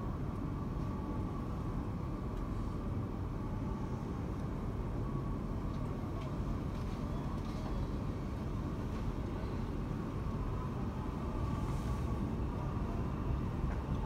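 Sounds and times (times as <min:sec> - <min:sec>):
busy station hall: 0:00.0 - 0:14.0.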